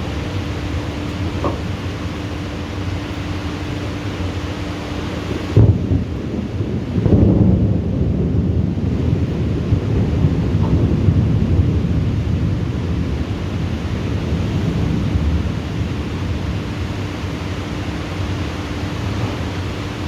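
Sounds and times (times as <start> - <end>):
faint steady hum: 0.0 - 20.0
rain hissing: 0.0 - 20.0
thunder rumbling: 0.0 - 20.0.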